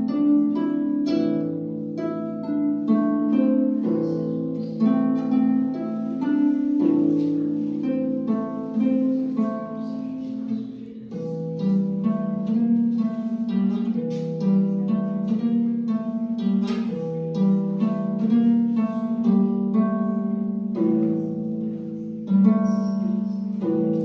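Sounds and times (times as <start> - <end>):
solo harp melody: 0.0 - 24.0.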